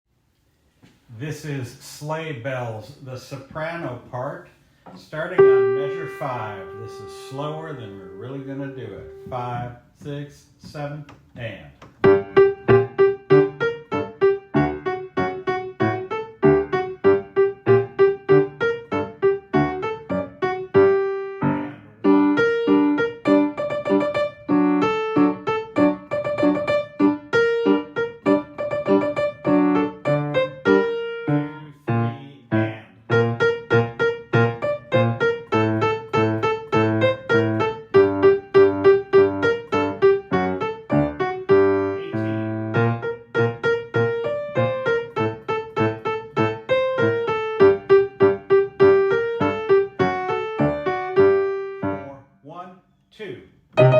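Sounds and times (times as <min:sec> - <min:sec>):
piano playing: 0:05.2 - 0:09.7, 0:12.0 - 0:52.2.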